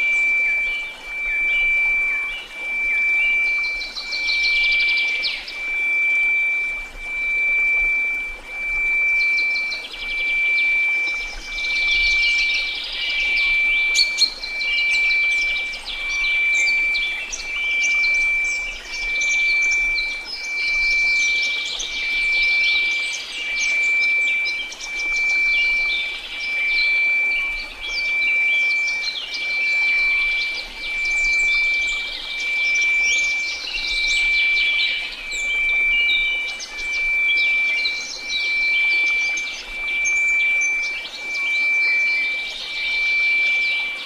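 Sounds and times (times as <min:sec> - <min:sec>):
birds chirping: 0:00.0 - 0:44.0
pulsing synthesized tone: 0:00.0 - 0:44.0.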